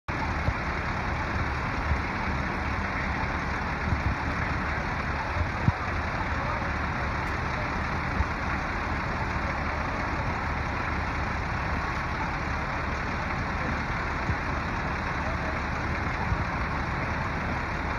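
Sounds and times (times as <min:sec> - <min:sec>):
crane engine running: 0:00.1 - 0:17.9.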